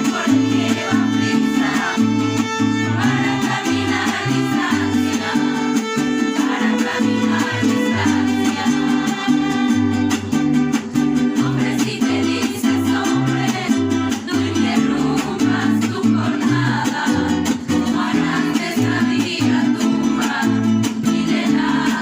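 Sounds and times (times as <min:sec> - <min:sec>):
plucked bass line: 0:00.0 - 0:22.0
strummed guitar chords: 0:00.0 - 0:22.0.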